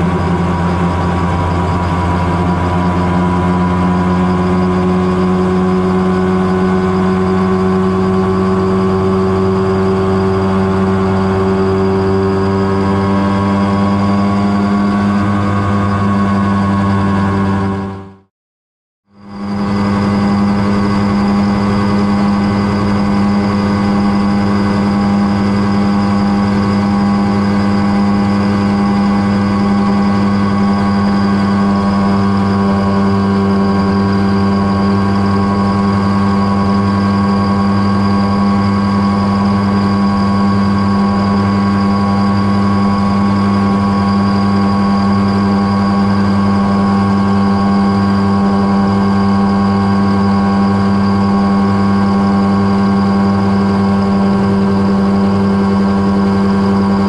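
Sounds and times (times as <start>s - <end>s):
helicopter engine and rotor humming: 0.0s - 18.3s, 19.1s - 57.0s.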